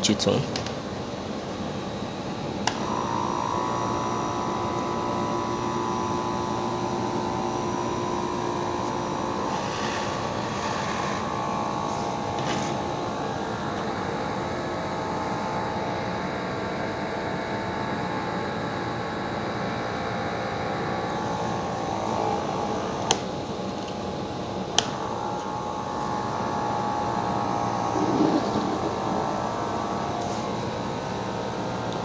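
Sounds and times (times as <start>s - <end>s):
motor generator whirring hum: 0.0s - 32.0s.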